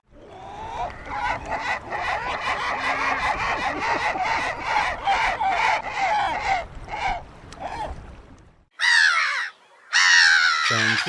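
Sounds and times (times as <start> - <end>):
gulls squawking: 0.2 - 7.9, 8.8 - 11.0.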